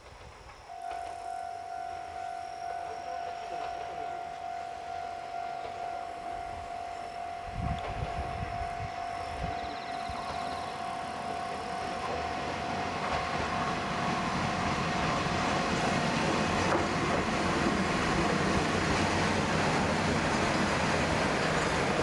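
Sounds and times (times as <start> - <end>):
diesel railcar running: 0.0 - 22.0
wheels on rails: 0.0 - 22.0.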